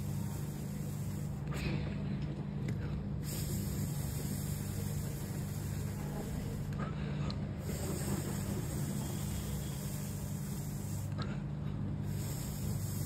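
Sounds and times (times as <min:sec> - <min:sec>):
steady low hum with faint hiss: 0:00.0 - 0:13.0.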